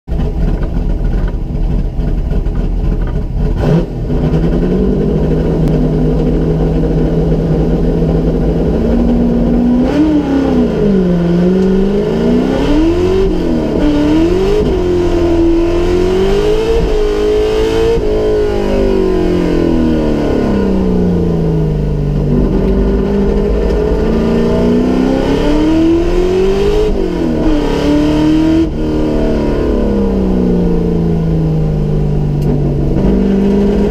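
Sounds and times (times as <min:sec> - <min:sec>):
race car engine revving: 0:00.1 - 0:33.9.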